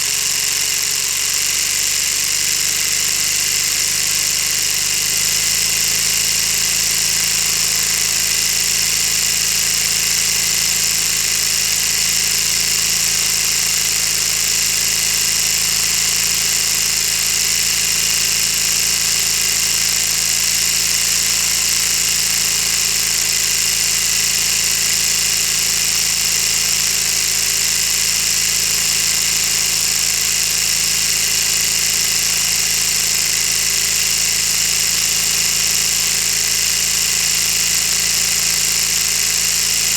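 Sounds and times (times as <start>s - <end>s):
model engine whirring clatter: 0.0s - 39.9s.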